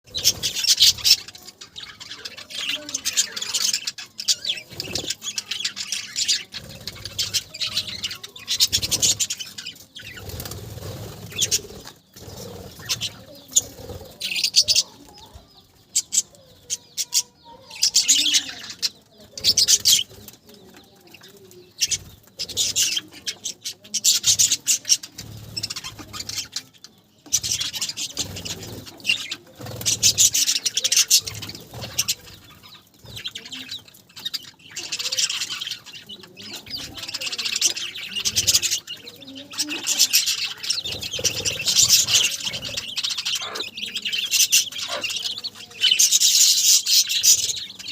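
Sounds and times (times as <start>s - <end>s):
budgerigars chirping: 0.1s - 21.0s, 21.6s - 47.9s.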